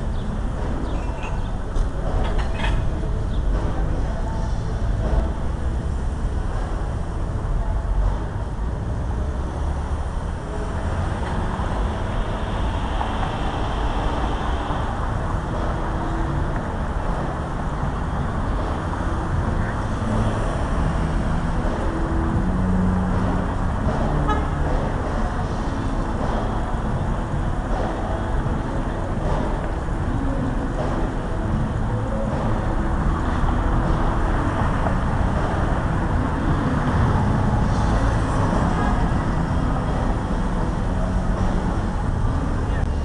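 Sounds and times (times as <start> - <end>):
traffic noise: 0.0 - 43.0.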